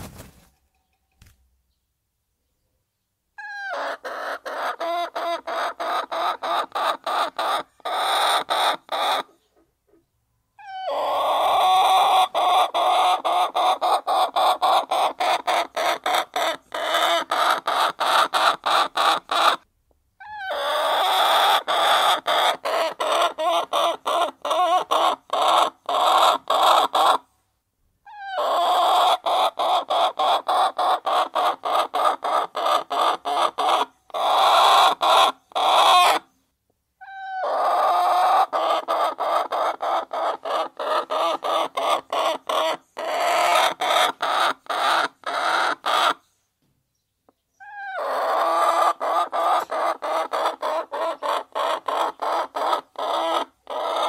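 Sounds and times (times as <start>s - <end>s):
hens clucking: 3.4s - 19.6s, 20.2s - 27.3s, 28.1s - 36.3s, 37.0s - 46.2s, 47.6s - 54.0s.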